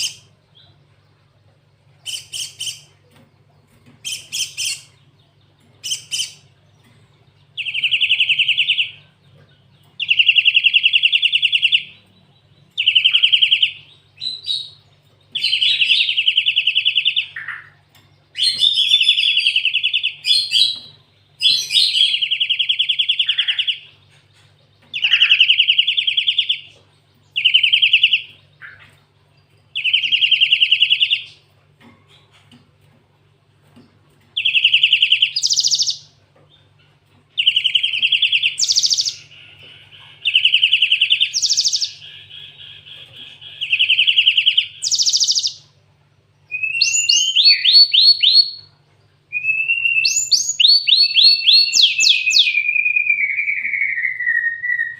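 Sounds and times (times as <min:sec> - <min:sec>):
bird singing trilled phrases: 0:00.0 - 0:32.6, 0:34.2 - 0:54.9.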